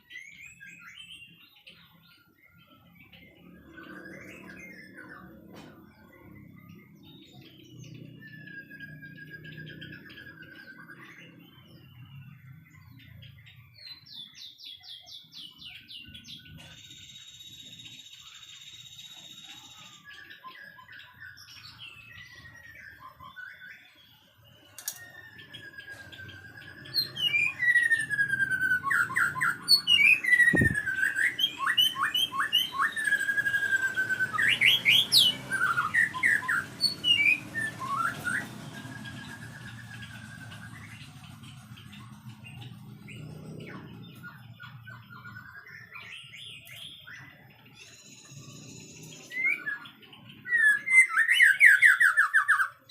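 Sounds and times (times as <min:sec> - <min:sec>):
bird singing whistles and trills: 0:00.0 - 0:52.9.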